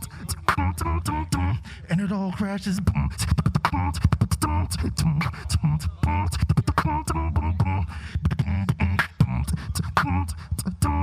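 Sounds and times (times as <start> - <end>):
beatboxing mouth hits: 0.0 - 1.6, 2.6 - 11.0
deep vocal bass: 0.0 - 11.0.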